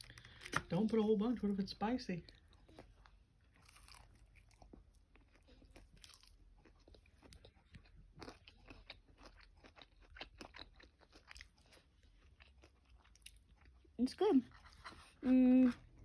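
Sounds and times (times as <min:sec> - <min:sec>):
faint crunching and chewing: 0:00.0 - 0:16.0.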